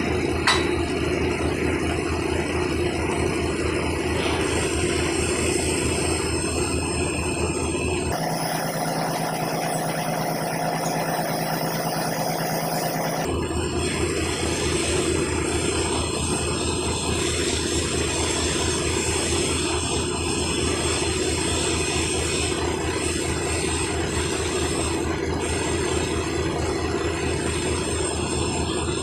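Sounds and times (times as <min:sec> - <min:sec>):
truck diesel engine running: 0:00.0 - 0:28.8.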